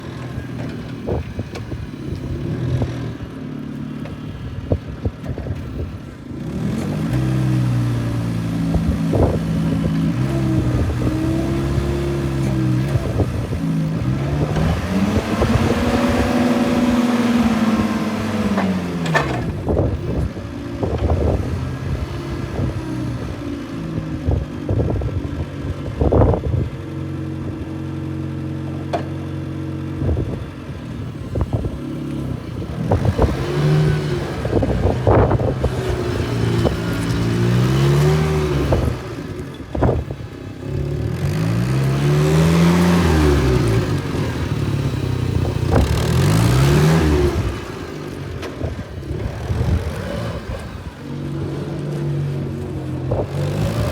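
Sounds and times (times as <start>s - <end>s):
forklift engine revving: 0.0s - 53.9s.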